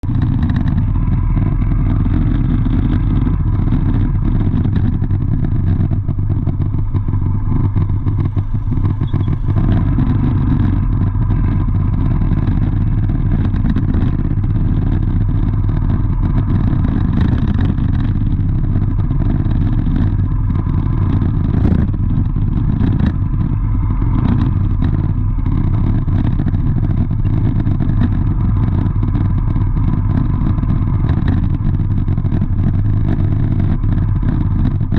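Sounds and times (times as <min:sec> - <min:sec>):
motorcycle engines: 0:00.0 - 0:34.9
vehicle engine and road noise: 0:00.0 - 0:34.9.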